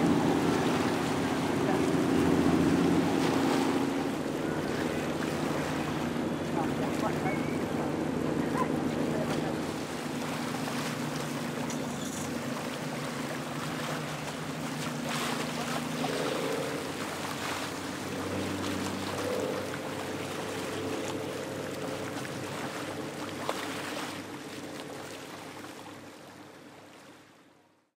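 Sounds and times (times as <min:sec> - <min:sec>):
boat engines humming: 0:00.0 - 0:27.8
rush of wind and water: 0:00.0 - 0:27.9.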